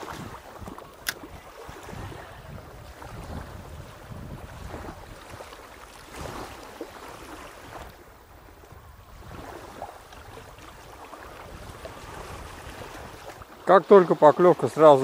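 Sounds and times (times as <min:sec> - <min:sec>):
wind on microphone: 0:00.0 - 0:13.5
river water lapping: 0:00.0 - 0:15.0.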